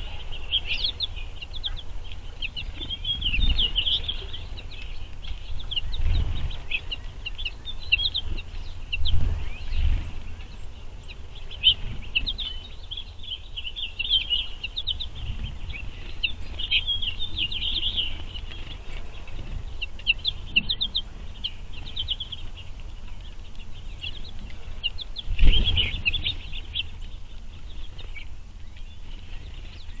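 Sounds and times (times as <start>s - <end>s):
finches chirping and twittering: 0.0s - 30.0s.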